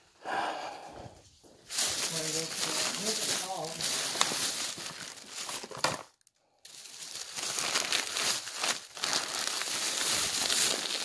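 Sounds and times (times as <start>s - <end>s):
plastic wrappers crinkling: 1.4s - 11.0s.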